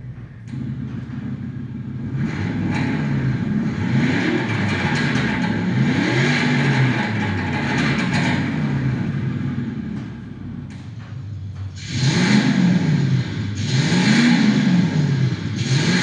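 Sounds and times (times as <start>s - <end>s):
synthesized engine revving: 0.5s - 10.8s, 11.8s - 16.0s.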